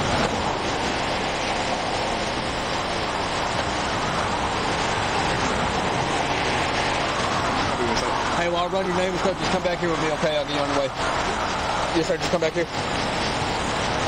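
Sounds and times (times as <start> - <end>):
traffic passing at speed: 0.0 - 14.0.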